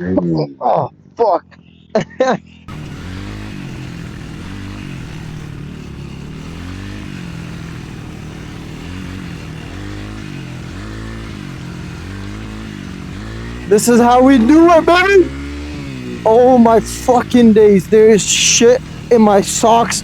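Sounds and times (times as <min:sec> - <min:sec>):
dirt bike engine revving: 0:00.9 - 0:20.0.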